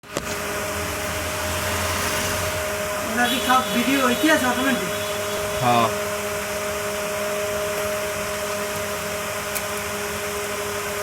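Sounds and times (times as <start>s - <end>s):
small blower whirring: 0.4s - 11.0s.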